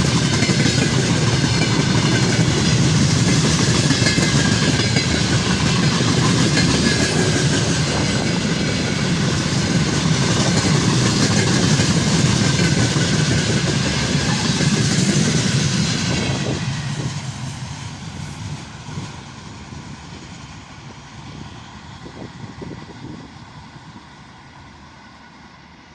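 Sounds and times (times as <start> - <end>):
freight train wagons rolling past: 0.0 - 25.9.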